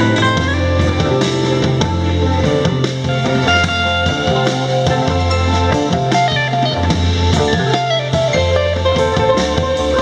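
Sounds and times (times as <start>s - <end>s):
drum kit: 0.0s - 10.0s
electric guitar: 0.0s - 10.0s
keyboard: 0.0s - 10.0s
low bass notes: 0.0s - 10.0s.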